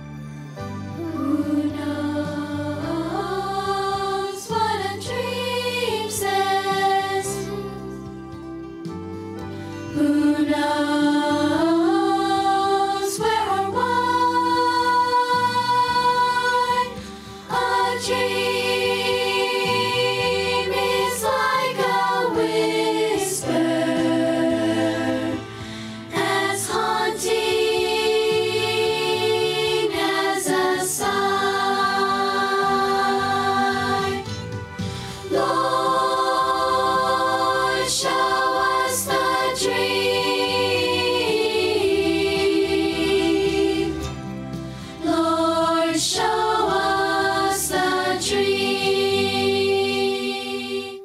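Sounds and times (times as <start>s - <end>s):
steady musical accompaniment: 0.0s - 51.0s
voices singing slow song: 0.8s - 51.0s.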